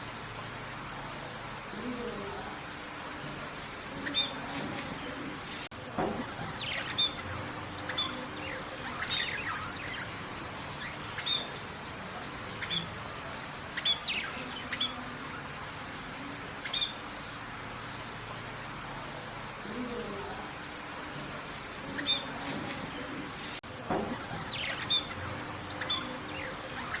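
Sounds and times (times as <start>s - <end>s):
birds chirping: 1.8s - 27.0s.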